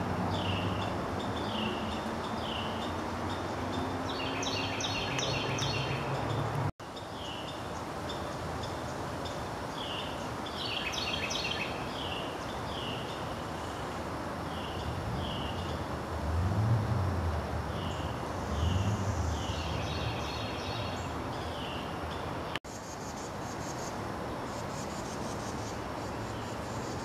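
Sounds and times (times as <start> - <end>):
birds calling: 0.0 - 15.9, 17.7 - 27.0.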